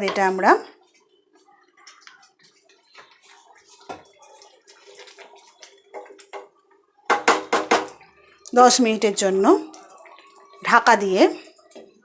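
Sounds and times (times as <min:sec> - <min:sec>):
gravy sloshing and bubbling: 0:00.8 - 0:07.1, 0:08.0 - 0:12.0.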